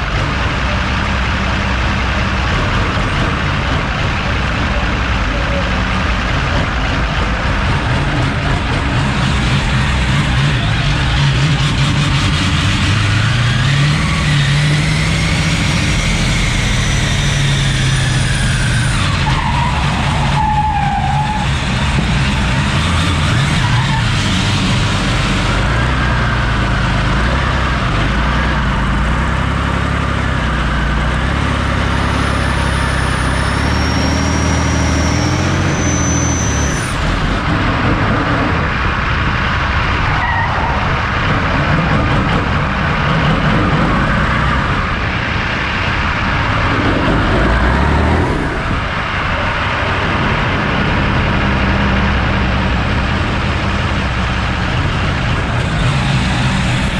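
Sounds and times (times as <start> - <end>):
car engine revving: 0.0 - 56.9
tyres skidding on tarmac: 0.0 - 56.9.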